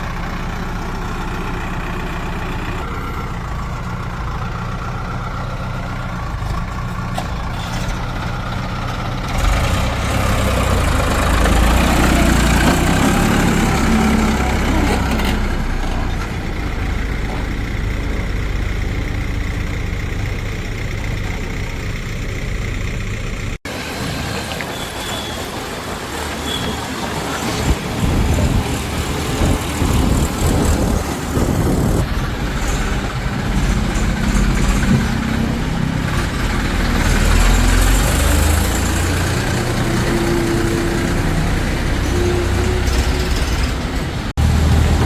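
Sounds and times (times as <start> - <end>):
diesel engine running: 0.0 - 24.6, 26.5 - 45.0.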